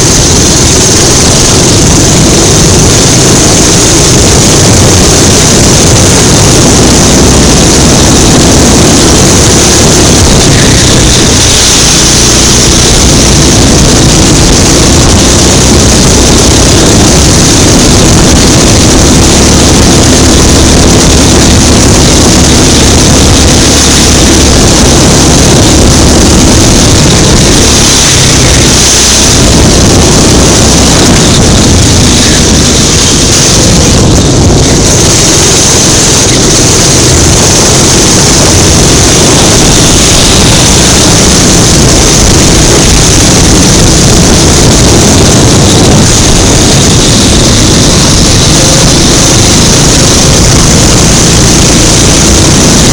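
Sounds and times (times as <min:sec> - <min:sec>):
go-kart engine running hard: 0:00.0 - 0:52.9.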